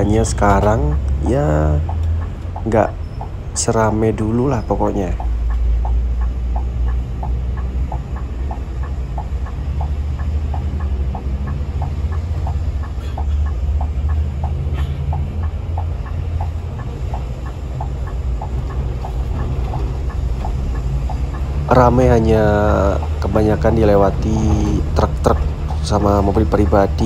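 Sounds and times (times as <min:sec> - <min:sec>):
bus engine and road rumble: 0:00.0 - 0:27.0
light regular ticking: 0:00.0 - 0:27.0.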